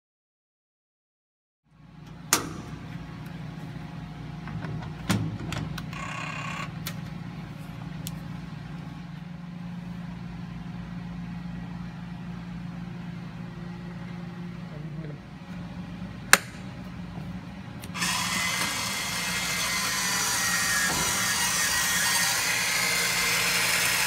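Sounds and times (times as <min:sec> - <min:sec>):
low electrical hum: 0:01.7 - 0:24.0.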